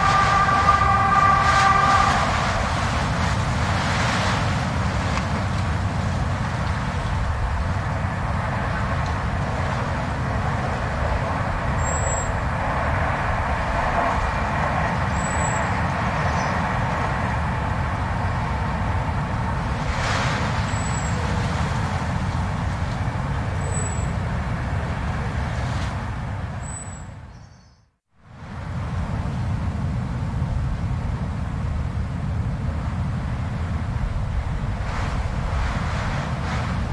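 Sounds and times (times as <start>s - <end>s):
blizzard wind blowing: 0.0s - 26.6s, 30.6s - 36.9s.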